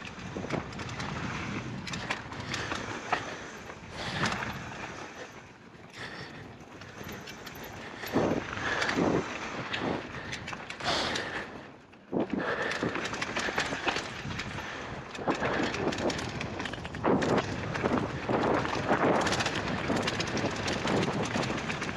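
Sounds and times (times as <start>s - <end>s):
chain and frame rattling: 0.0s - 11.6s, 12.2s - 21.9s
bike tyres on dirt: 0.0s - 21.9s.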